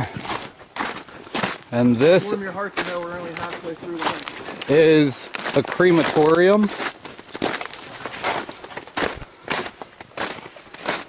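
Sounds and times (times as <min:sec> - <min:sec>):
footsteps on snow: 0:00.0 - 0:11.0.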